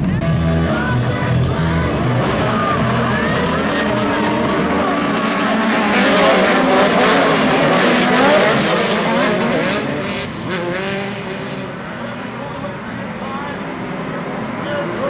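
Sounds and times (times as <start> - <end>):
racing engines revving: 0.0 - 15.0.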